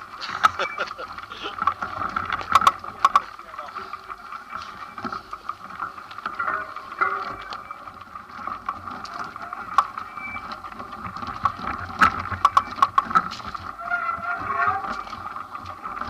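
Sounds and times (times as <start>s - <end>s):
bike rattling: 0.0s - 16.0s
tyres crunching on gravel: 0.0s - 16.0s.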